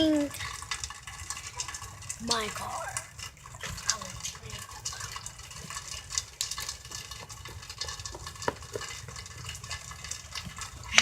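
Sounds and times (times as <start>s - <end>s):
heavy rain pattering: 0.0s - 11.0s.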